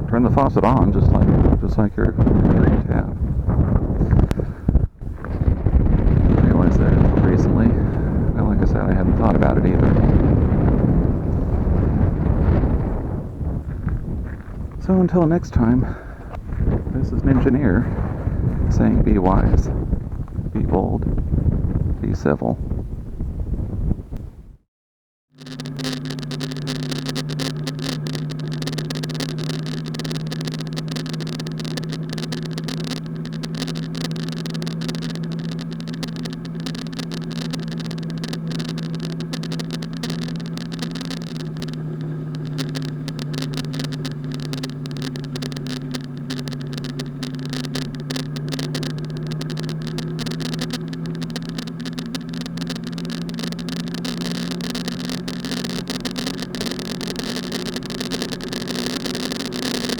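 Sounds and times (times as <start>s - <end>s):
road noise hiss: 0.0s - 21.1s, 25.4s - 59.9s
car engine drone: 0.0s - 24.4s, 25.3s - 59.9s.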